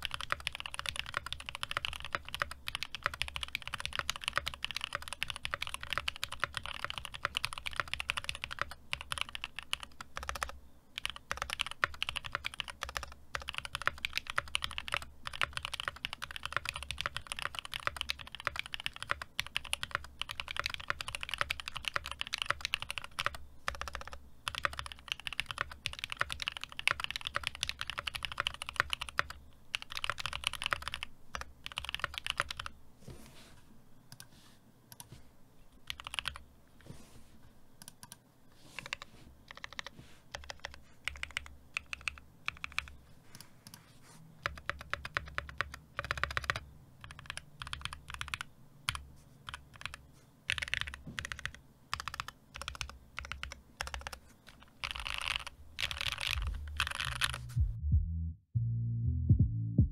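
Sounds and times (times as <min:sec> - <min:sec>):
typing on mechanical keyboard: 0:00.0 - 0:32.7, 0:35.9 - 0:36.4, 0:38.8 - 0:43.8, 0:44.4 - 0:57.4.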